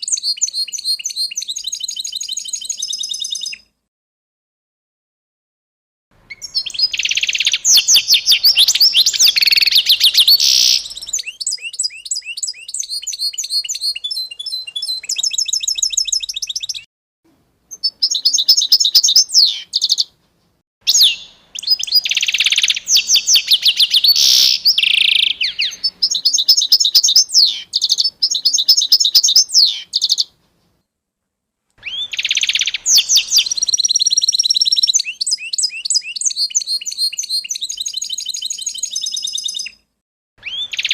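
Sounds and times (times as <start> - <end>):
songbird singing trills: 0.0 - 3.7, 6.2 - 16.9, 17.7 - 20.1, 20.9 - 30.3, 31.8 - 39.8, 40.4 - 40.9.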